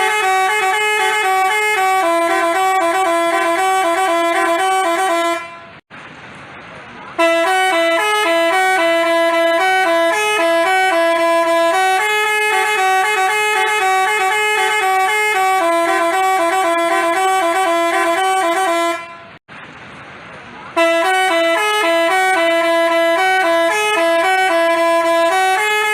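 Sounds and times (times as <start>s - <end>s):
multi-tone bus horn melody: 0.0s - 5.8s, 7.1s - 19.4s, 20.8s - 25.9s.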